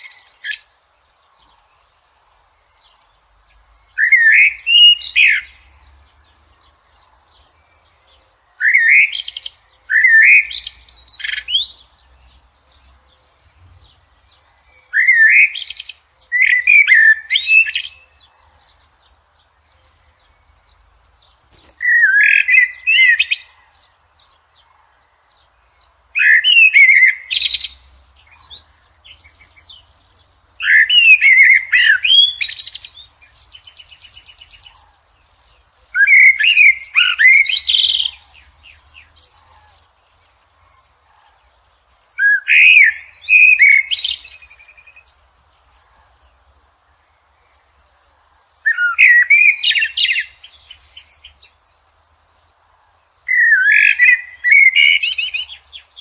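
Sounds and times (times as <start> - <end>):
blackbird singing: 0.0 - 56.0.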